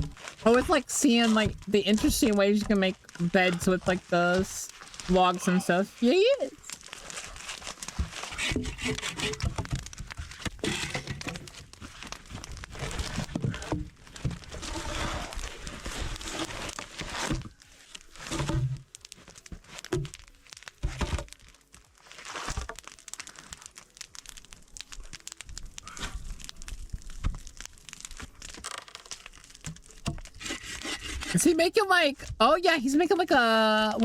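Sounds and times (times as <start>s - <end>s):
snow and branches crunching: 0.0s - 34.0s.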